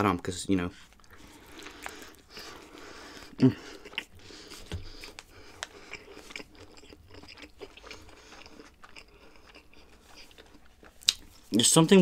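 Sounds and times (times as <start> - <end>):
person chewing food: 0.7 - 11.6.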